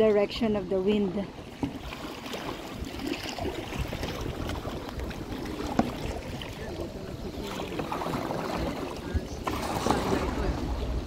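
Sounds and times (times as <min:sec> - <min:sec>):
paddle strokes splashing: 0:00.0 - 0:11.0
wind buffeting microphone: 0:00.0 - 0:11.0.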